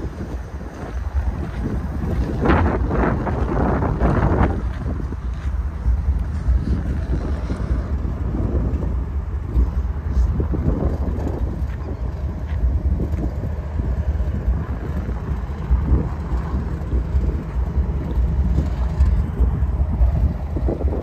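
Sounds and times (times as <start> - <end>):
diesel locomotive rumbling: 0.0 - 21.0
wind buffeting microphone: 0.0 - 21.0.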